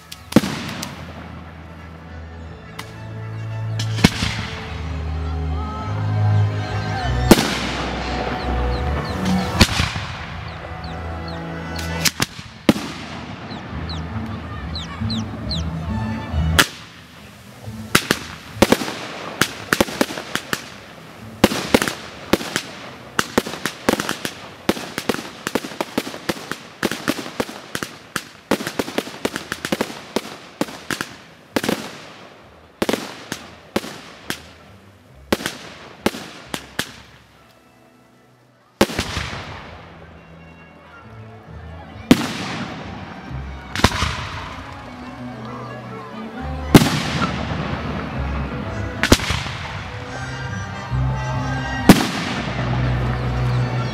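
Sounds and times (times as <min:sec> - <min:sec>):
firework bangs and crackles: 0:00.0 - 0:02.0, 0:03.8 - 0:05.1, 0:07.2 - 0:11.0, 0:11.8 - 0:14.5, 0:15.5 - 0:37.4, 0:38.8 - 0:40.2, 0:42.1 - 0:45.4, 0:46.5 - 0:53.9
music playing: 0:00.0 - 0:53.9.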